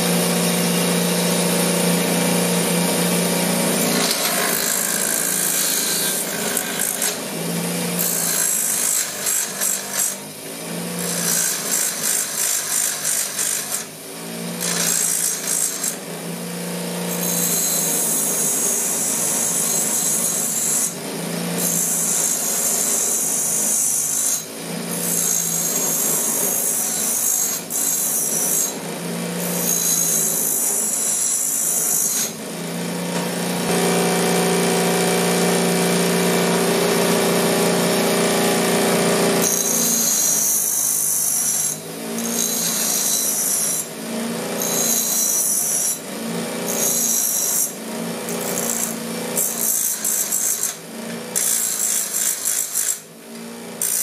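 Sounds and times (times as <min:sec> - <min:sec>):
grinder motor hum: 0:00.0 - 0:45.4
bench grinder grinding steel: 0:00.0 - 0:54.0.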